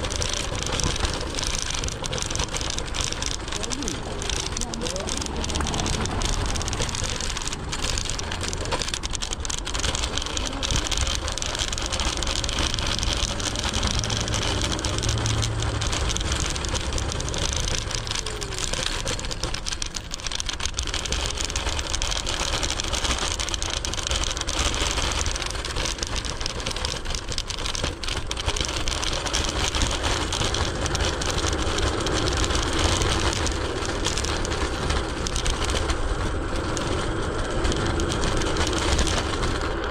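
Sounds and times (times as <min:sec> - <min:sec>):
car traffic: 0:00.0 - 0:39.9
deep rumble: 0:00.0 - 0:39.9
tyres rolling over road: 0:00.0 - 0:39.9.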